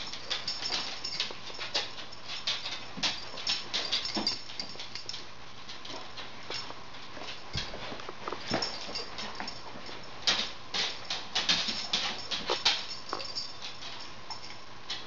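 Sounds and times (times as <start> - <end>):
dog claws clicking on hardwood floor: 0.0 - 15.0.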